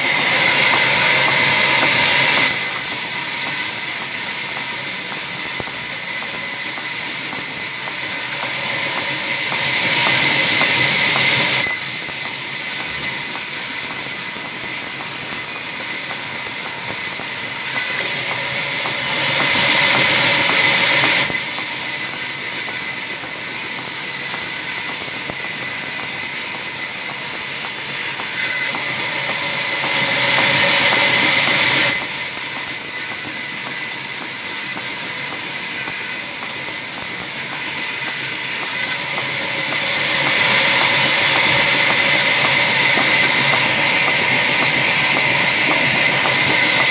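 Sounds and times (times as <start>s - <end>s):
band saw cutting through log: 0.0s - 46.9s.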